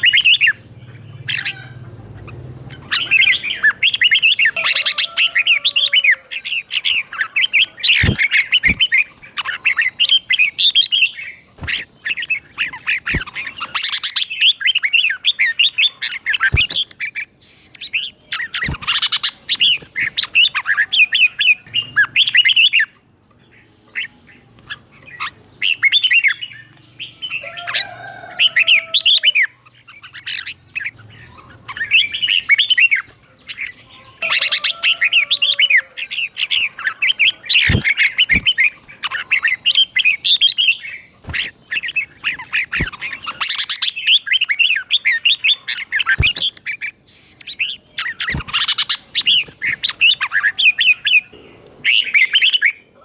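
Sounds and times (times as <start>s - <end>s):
harsh bird squawks: 0.0s - 22.8s, 27.3s - 51.3s
bird chattering whistled song: 0.0s - 23.0s, 23.6s - 52.9s.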